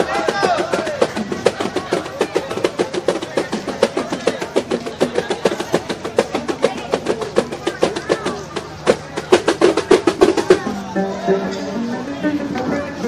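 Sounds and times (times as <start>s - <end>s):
music with fast percussion beat: 0.0s - 10.9s.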